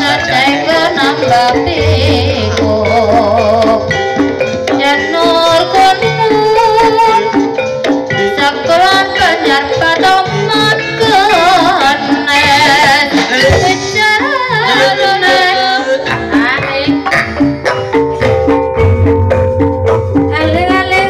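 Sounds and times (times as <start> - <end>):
drum strokes: 0.0 - 21.0
metallophone notes: 0.0 - 21.0.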